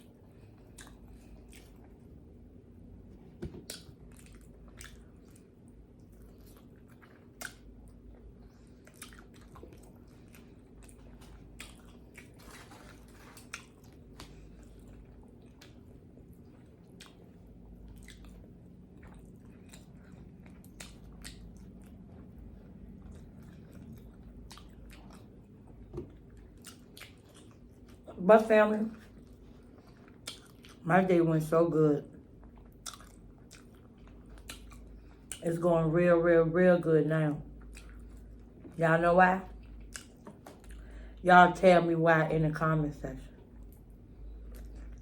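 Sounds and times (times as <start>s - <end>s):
person chewing food: 0.0s - 28.2s, 29.0s - 30.8s, 32.2s - 35.4s, 37.5s - 38.8s, 39.5s - 41.2s, 43.4s - 45.0s.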